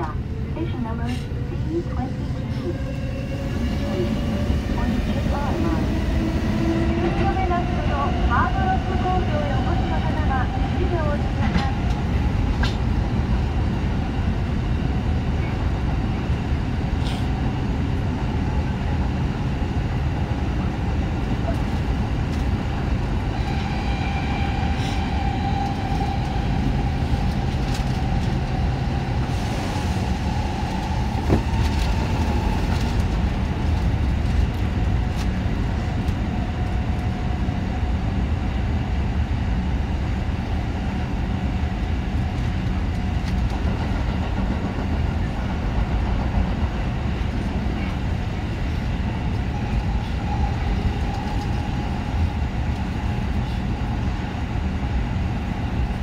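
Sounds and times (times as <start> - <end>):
subway train wheels rumbling on rail: 0.0 - 56.0.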